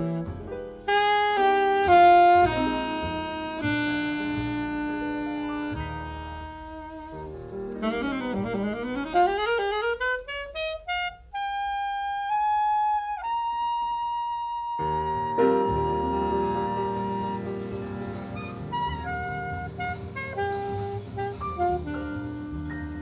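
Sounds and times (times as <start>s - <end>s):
piano and band chord: 0.0s - 10.7s, 14.8s - 23.0s
solo saxophone: 0.0s - 23.0s.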